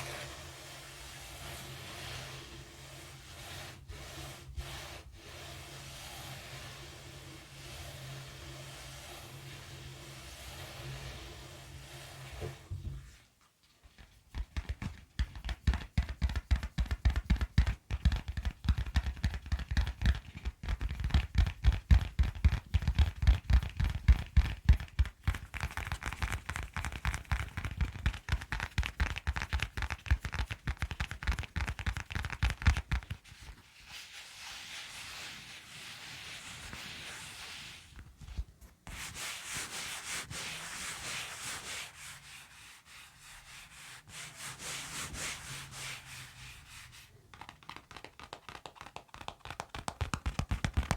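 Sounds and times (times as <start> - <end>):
rubbing or brushing: 0.0 - 13.3, 22.4 - 50.9.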